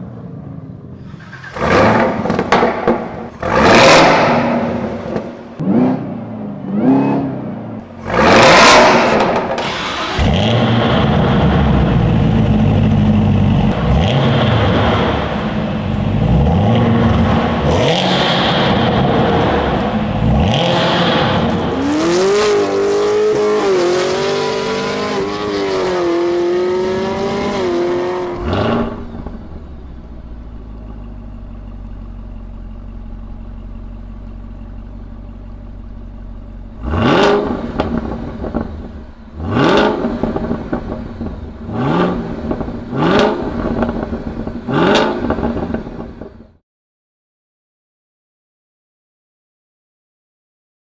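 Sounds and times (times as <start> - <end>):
high supercharger whine: 0.0 - 46.6
car engine revving: 1.0 - 46.6.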